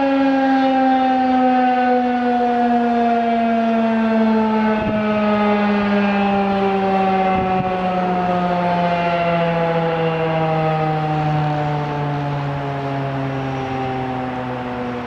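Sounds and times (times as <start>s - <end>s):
warning siren winding down: 0.0s - 15.0s.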